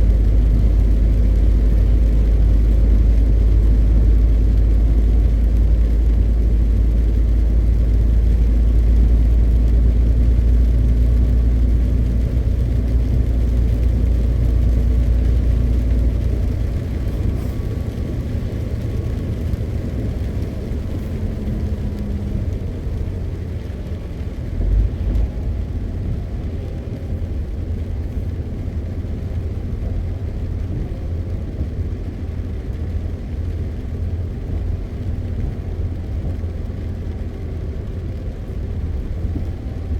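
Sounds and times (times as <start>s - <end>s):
truck diesel engine drone: 0.0s - 39.9s
tyre and road noise: 0.0s - 39.9s.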